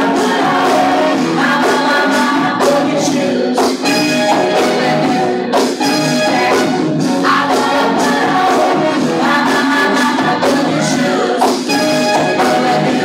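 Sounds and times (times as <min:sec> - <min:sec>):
funk music with singing: 0:00.0 - 0:13.0.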